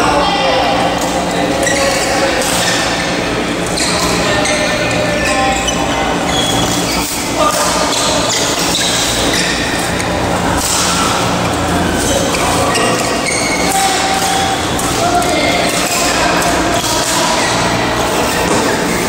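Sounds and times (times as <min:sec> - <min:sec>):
voices: 0:00.0 - 0:19.0
shoe squeaks: 0:01.4 - 0:19.0.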